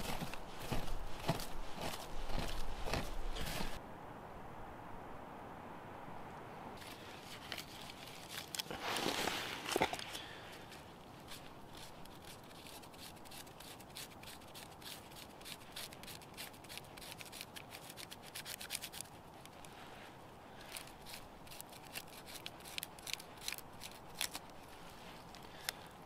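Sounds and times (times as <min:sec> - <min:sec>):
knife scraping bark: 0:00.0 - 0:03.8, 0:06.8 - 0:19.8, 0:20.5 - 0:25.9.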